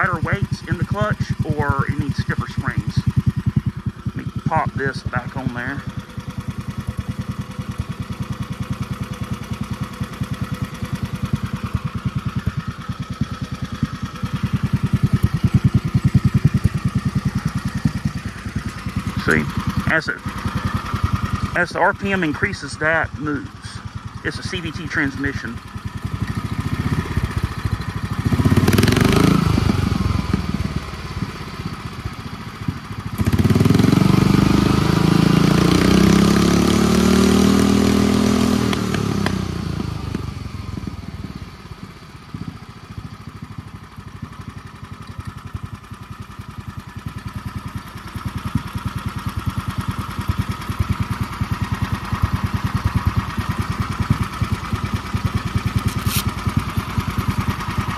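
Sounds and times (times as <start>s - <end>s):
go-kart engine idling and revving: 0.0s - 57.9s.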